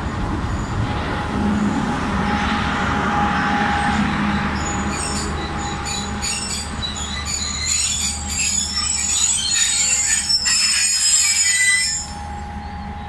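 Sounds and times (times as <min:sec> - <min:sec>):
low train rumble: 0:00.0 - 0:13.0
train wheels squealing on rails: 0:00.0 - 0:13.0.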